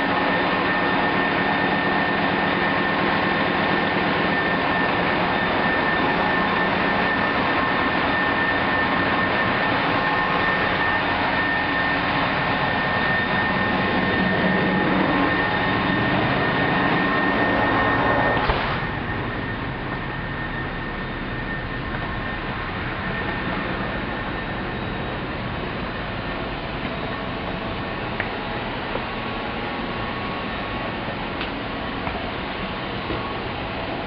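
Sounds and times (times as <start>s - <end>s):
machinery droning: 0.0s - 34.0s
steady high whine: 0.0s - 34.0s.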